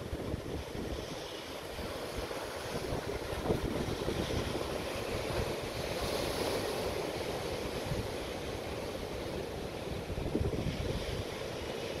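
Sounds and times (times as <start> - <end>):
wind buffeting microphone: 0.0 - 8.2, 9.9 - 12.0
surf breaking over rocks: 0.0 - 12.0.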